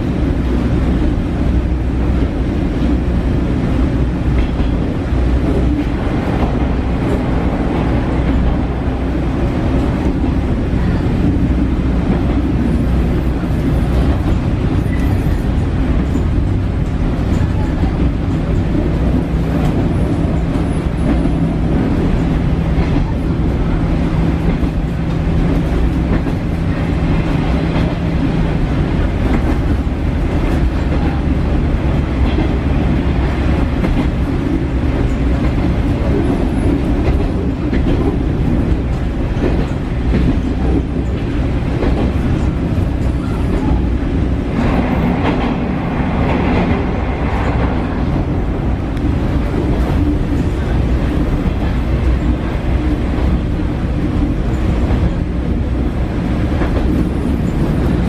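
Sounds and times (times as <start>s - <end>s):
wheels clattering on rails: 0.0s - 58.0s.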